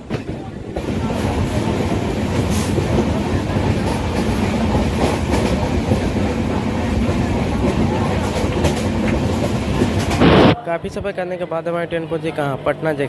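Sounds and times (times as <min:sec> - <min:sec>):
train rumble inside coach: 0:00.0 - 0:10.6.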